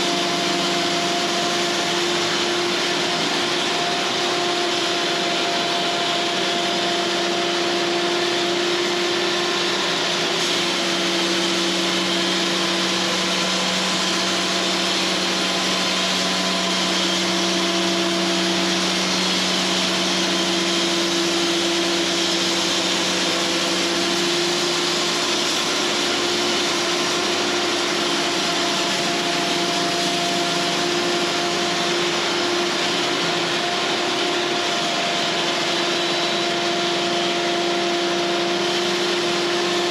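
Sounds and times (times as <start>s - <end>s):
band sawmill machine hum: 0.0s - 39.9s.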